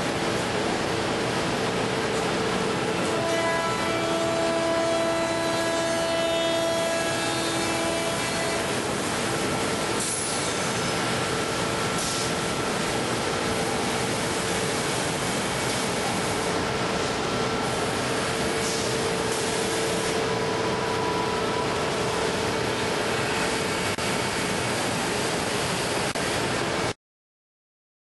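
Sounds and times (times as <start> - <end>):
cnc machine whining: 2.6 - 26.2.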